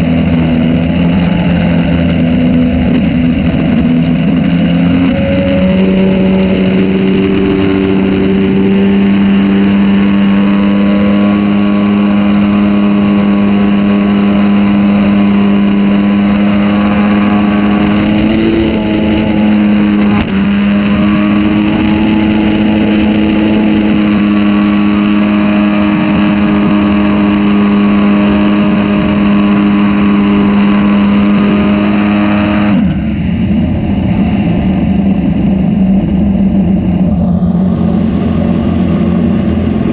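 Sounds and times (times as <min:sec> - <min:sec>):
boat motor running: 0:00.0 - 0:39.9.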